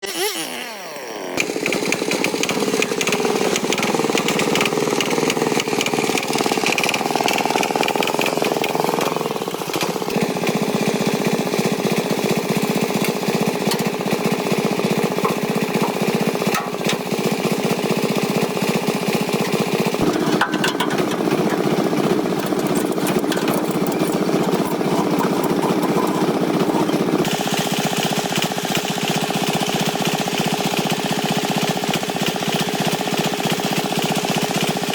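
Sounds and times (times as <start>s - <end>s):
tractor engine running: 1.4s - 34.9s.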